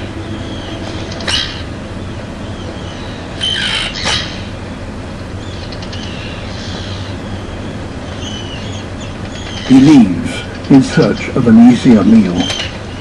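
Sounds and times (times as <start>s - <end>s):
steady low hum: 0.0s - 13.0s
terns squawking alarm calls: 0.0s - 13.0s.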